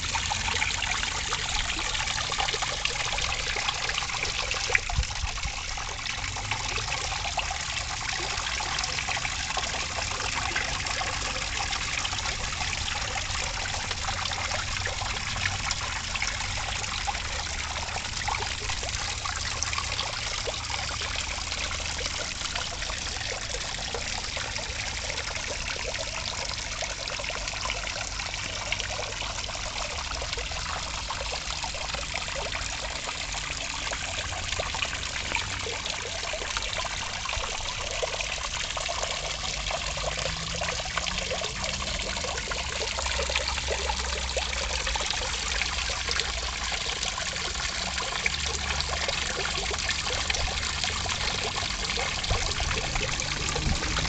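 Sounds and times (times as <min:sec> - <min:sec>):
pond waterfall splashing: 0:00.0 - 0:54.0.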